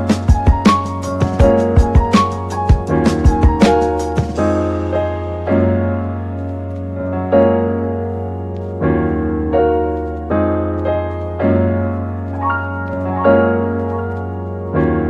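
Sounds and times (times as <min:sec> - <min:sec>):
gentle electronic piano chords: 0:00.0 - 0:15.0.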